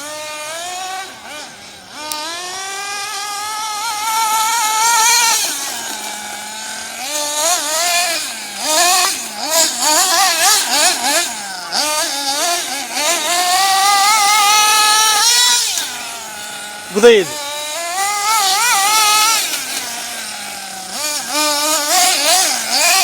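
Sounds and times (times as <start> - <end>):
model buggy engine revving: 0.0 - 23.0.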